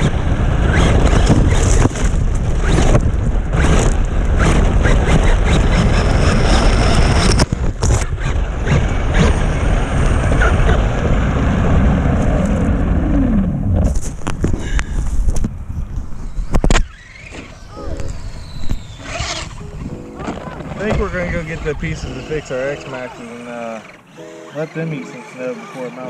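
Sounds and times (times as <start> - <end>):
motor whine falling in pitch: 2.6 - 13.9, 16.0 - 26.0.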